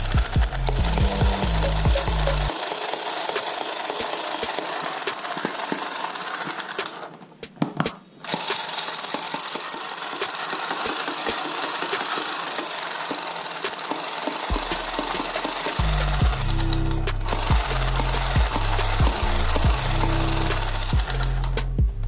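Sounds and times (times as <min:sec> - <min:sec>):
toy gun machine-gun rattle: 0:00.0 - 0:07.2, 0:08.2 - 0:21.6.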